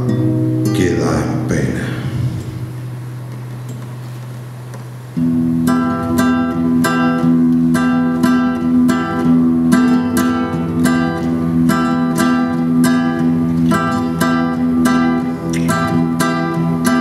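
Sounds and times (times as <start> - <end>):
acoustic guitars strumming chords: 0.0 - 17.0.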